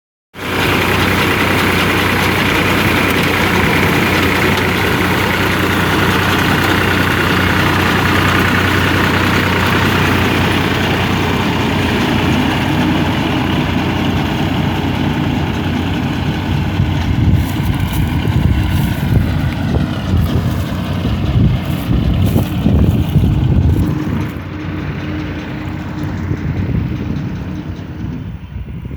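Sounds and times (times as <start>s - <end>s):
tractor engine running: 0.3s - 28.9s
uneven low rumbling: 0.5s - 28.9s.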